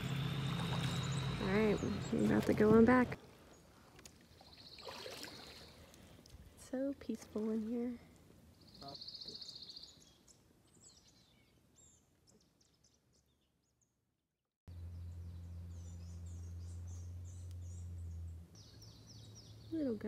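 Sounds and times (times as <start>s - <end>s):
small birds trilling and chirping: 0.0s - 6.2s, 7.7s - 14.0s, 14.7s - 20.0s.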